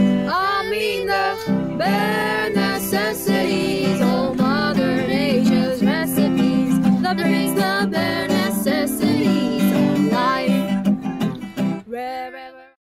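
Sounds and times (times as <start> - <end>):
acoustic guitar music: 0.0 - 12.7.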